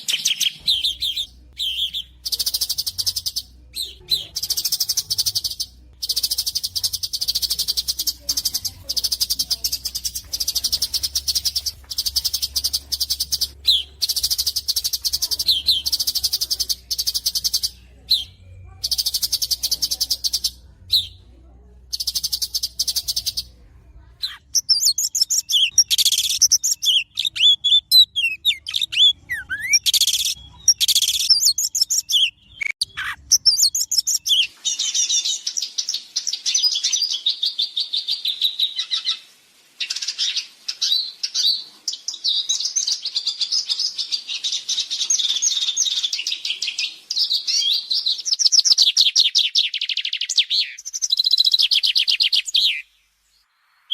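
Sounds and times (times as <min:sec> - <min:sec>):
songbird trilling and warbling: 0:00.0 - 0:21.2, 0:24.2 - 0:52.9.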